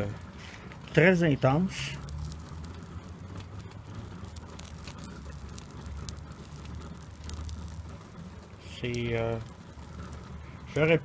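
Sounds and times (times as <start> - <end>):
coffee percolator bubbling: 0.0 - 11.0
faint fire crackles: 0.0 - 11.0.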